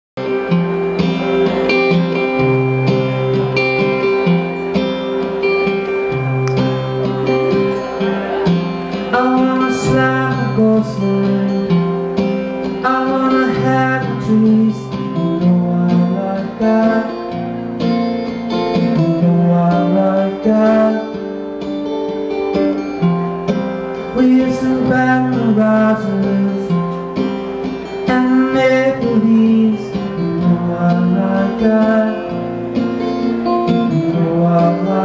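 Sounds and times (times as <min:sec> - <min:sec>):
live rock band playing: 0:00.2 - 0:35.0
strummed guitar: 0:00.2 - 0:35.0.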